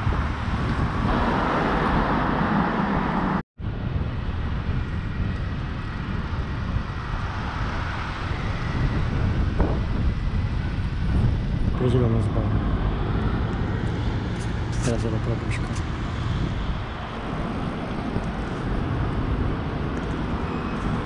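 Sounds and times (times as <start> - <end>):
city traffic noise: 0.0 - 21.0
wind rushing over microphone: 0.0 - 21.0.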